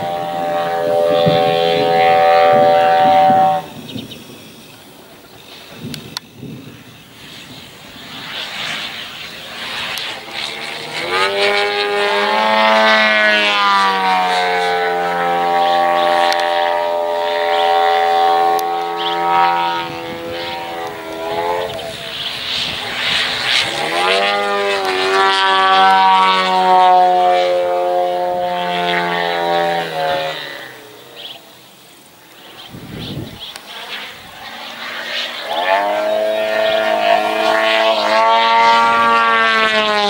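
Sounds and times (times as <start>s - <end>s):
model plane engine and propeller: 0.0s - 40.0s.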